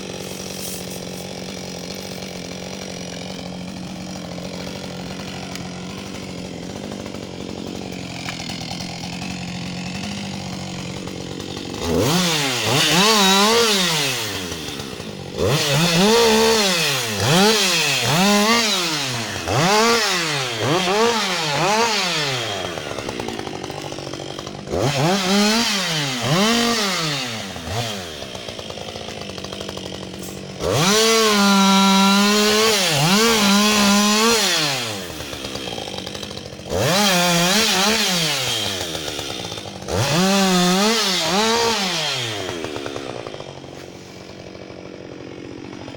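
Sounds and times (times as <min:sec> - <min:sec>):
chainsaw cutting into log: 0:00.0 - 0:45.9
chainsaw idling and revving: 0:00.0 - 0:45.9.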